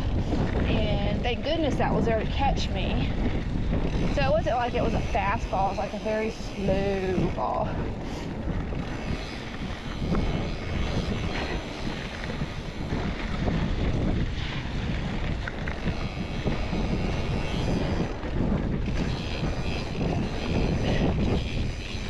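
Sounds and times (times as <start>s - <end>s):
bike tyres rolling over dirt: 0.0s - 22.0s
wind buffeting microphone: 0.0s - 22.0s.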